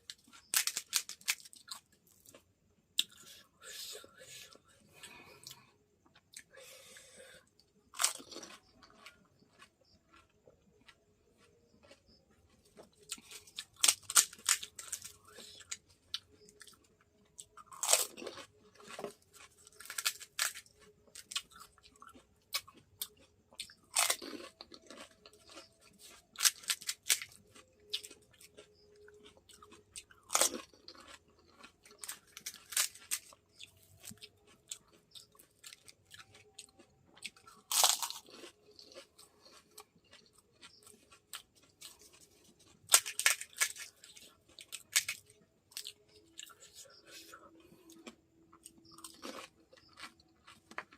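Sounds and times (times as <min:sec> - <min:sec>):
crunchy bites: 0:00.0 - 0:50.9
quiet chewing: 0:00.0 - 0:50.9.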